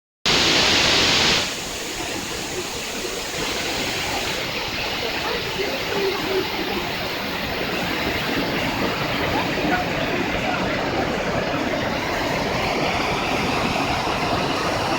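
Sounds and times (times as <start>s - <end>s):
waterfall rushing: 0.3s - 14.9s.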